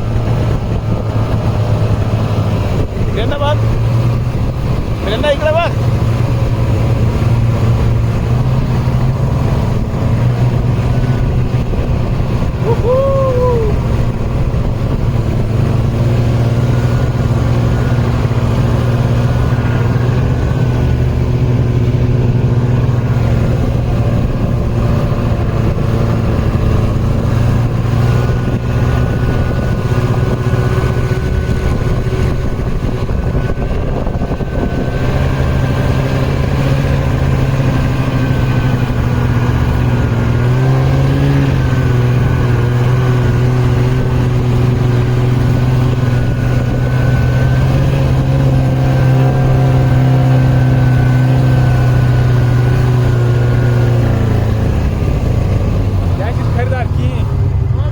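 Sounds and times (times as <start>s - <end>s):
vehicle engine running: 0.0s - 57.9s.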